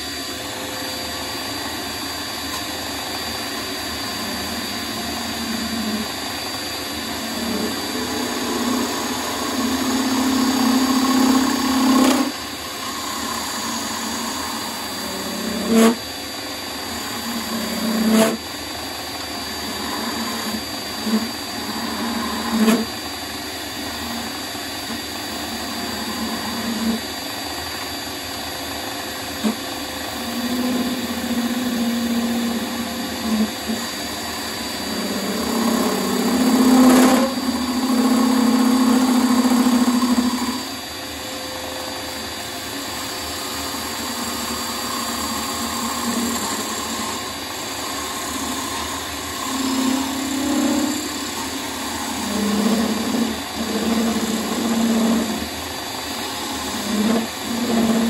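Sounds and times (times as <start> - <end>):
tool cutting spinning wood: 0.0 - 58.0
wood lathe running: 0.0 - 58.0.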